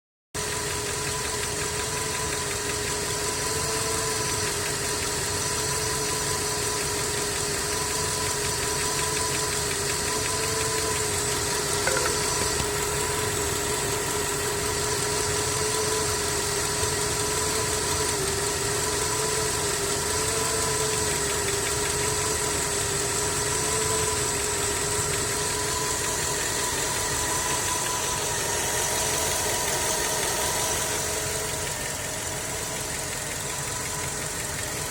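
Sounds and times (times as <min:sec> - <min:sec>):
car engine idling: 0:00.4 - 0:03.5, 0:04.1 - 0:34.9
engine knocking: 0:00.4 - 0:34.9.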